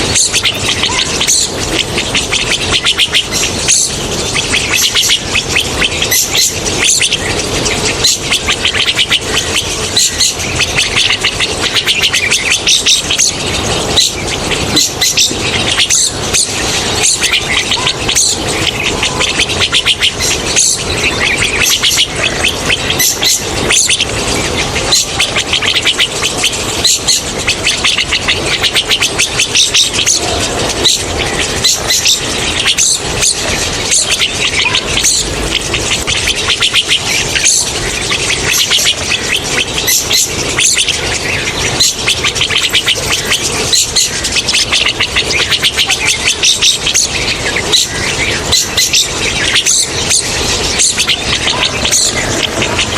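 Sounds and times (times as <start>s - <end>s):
starlings squealing: 0.0s - 52.9s.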